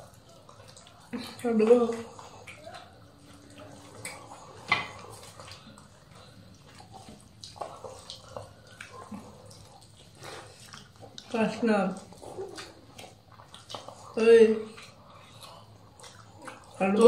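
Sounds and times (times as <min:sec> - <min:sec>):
hands squelching mixing food: 0:00.0 - 0:17.0
mouths chewing: 0:00.0 - 0:17.0.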